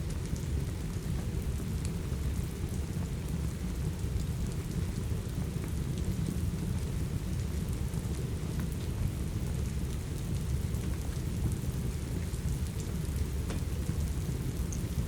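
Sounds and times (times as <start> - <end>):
steady rain: 0.0 - 15.0
wood fire crackles: 0.0 - 15.0.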